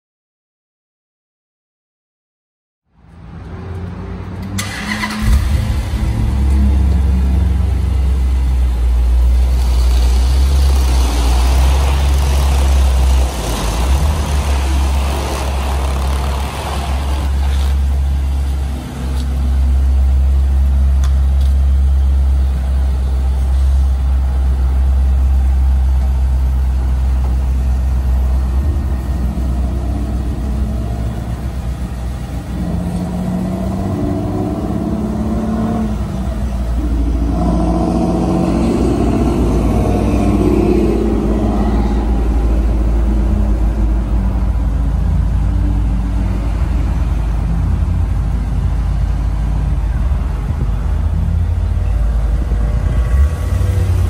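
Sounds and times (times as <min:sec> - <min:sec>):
car engine idling: 0:04.3 - 0:52.9.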